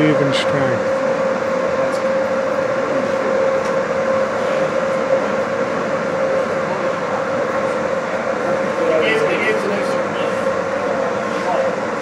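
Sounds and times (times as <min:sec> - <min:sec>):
machine hum with drone tone: 0:00.0 - 0:12.0.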